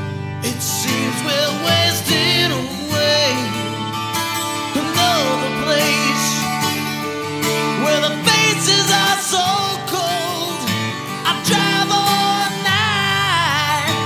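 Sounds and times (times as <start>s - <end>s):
country song with guitar: 0.0s - 14.0s.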